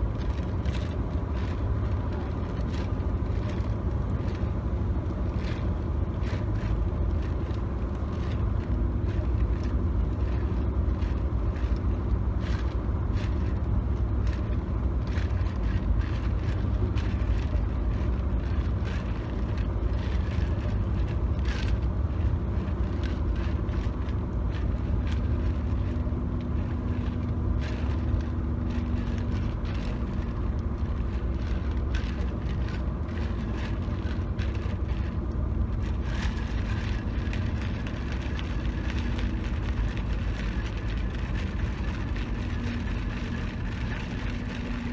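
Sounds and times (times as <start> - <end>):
car driving rumble: 0.0 - 44.9.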